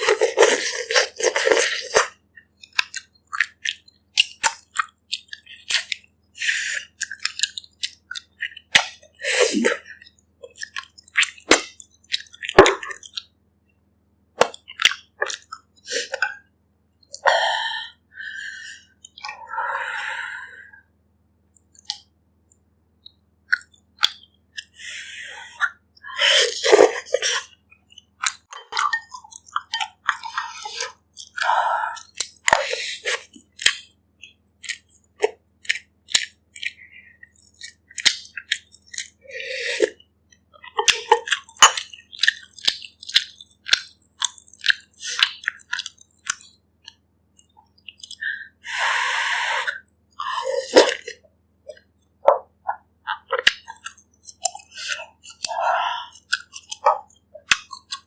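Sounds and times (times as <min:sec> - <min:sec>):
slurping: 0:00.0 - 0:13.3, 0:14.4 - 0:16.4, 0:23.5 - 0:40.0, 0:40.6 - 0:58.0
wet chewing and lip smacks: 0:00.0 - 0:13.4, 0:14.4 - 0:17.3, 0:21.5 - 0:24.8, 0:26.6 - 0:31.4, 0:32.0 - 0:39.2, 0:39.8 - 0:58.0.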